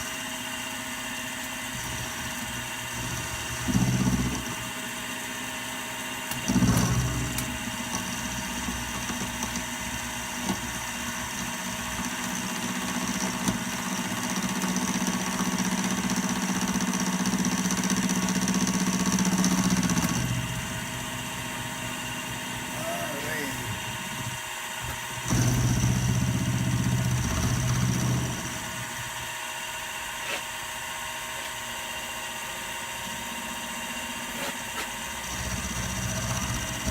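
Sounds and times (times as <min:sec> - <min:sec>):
machine tool motor humming: 0:00.0 - 0:36.9.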